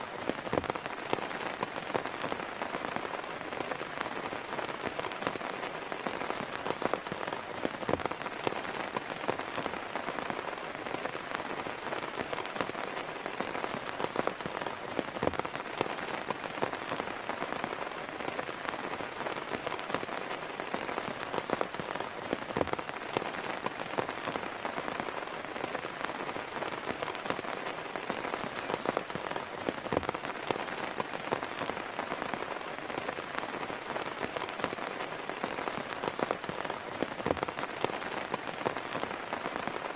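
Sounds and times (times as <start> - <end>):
heavy rain falling: 0.0 - 39.9
loud close raindrops: 0.0 - 39.9.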